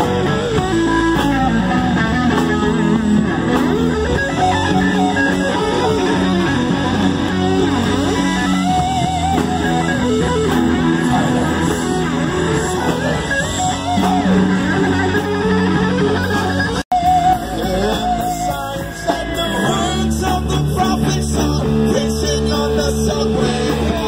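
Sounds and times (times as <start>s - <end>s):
bass guitar: 0.0s - 24.0s
drums: 0.0s - 24.0s
electric guitar lead: 0.0s - 24.0s.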